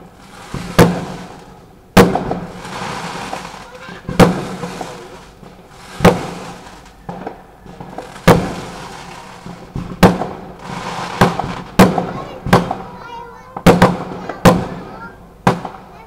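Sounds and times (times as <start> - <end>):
fireworks loud bangs: 0.0 - 16.0
soft firework pops: 0.5 - 16.0.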